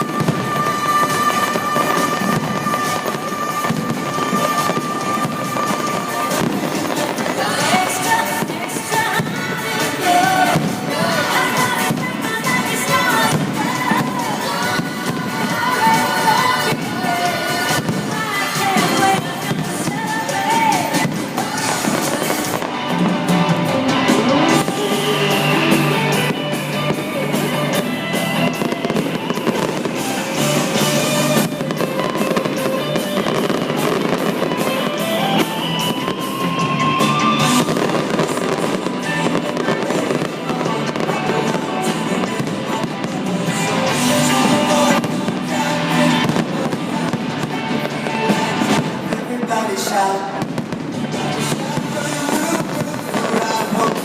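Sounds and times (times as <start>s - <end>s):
fireworks bursting and crackling: 0.0s - 54.0s
loud music with steady beat: 0.0s - 54.0s.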